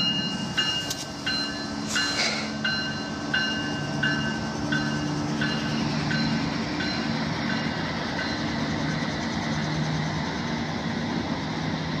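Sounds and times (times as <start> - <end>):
locomotive engine hum: 0.0 - 12.0
train wheels rolling on rails: 0.0 - 12.0.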